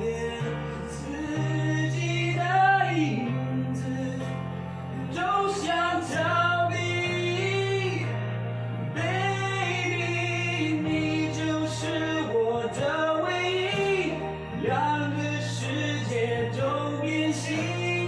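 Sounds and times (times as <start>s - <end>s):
person singing: 0.0s - 8.2s, 8.8s - 18.0s
backing track low chords: 0.0s - 18.0s.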